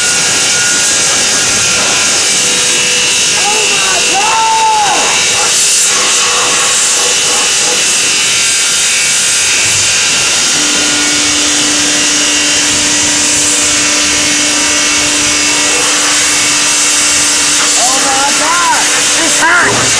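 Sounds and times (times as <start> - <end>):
machinery high hiss: 0.0 - 19.9
machinery steady hum: 0.0 - 19.9.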